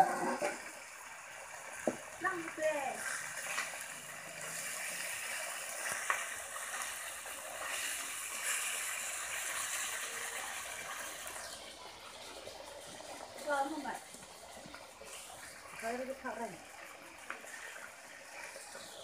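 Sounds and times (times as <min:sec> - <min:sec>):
fish frying in hot oil: 0:00.0 - 0:19.0.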